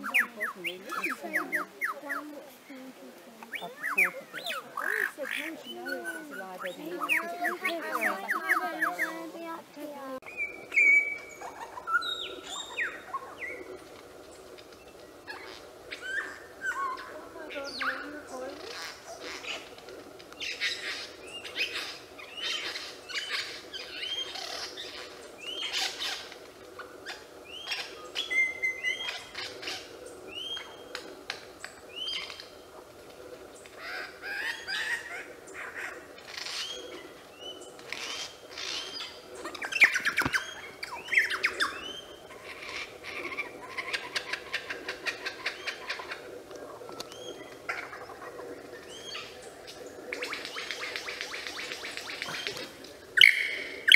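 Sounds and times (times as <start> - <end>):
lyrebird singing: 0.0 - 53.9.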